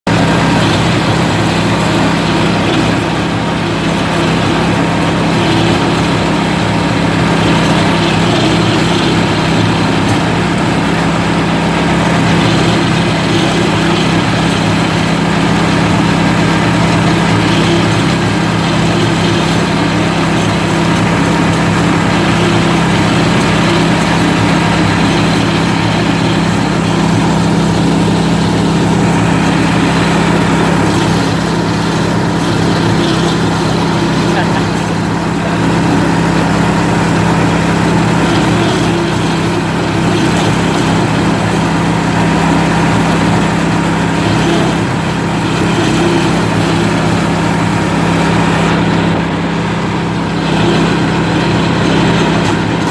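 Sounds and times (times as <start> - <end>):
machine engine humming: 0.0 - 52.9.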